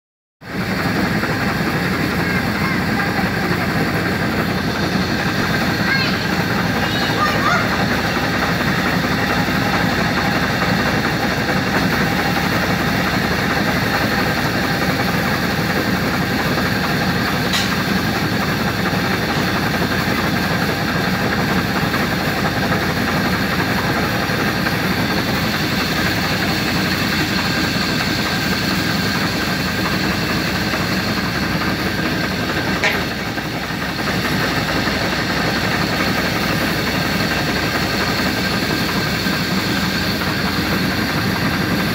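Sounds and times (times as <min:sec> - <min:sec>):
steady engine-like drone: 0:00.4 - 0:41.9.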